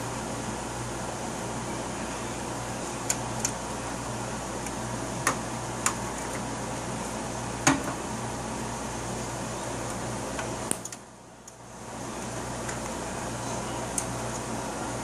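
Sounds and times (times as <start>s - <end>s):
fan-like hum: 0.0s - 15.0s.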